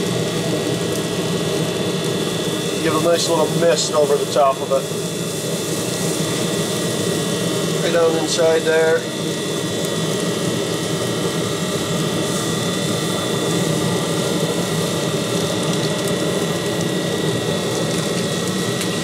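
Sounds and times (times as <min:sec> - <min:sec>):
pellet grill fan humming: 0:00.0 - 0:19.0.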